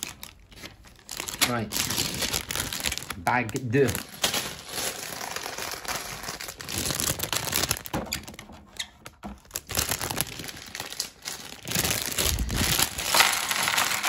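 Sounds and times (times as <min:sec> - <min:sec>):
plastic bag tearing: 0:00.0 - 0:08.4, 0:09.4 - 0:14.0
plastic bag crinkling: 0:00.0 - 0:14.0.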